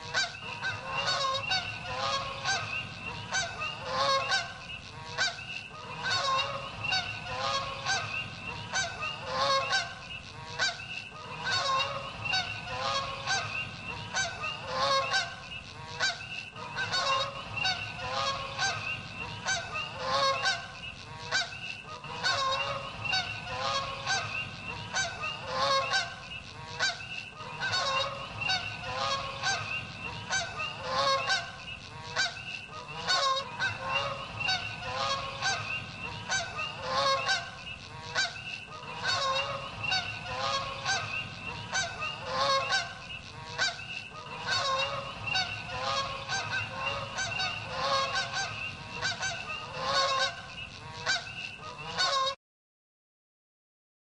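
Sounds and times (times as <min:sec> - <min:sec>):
geese honking: 0:00.0 - 0:52.4.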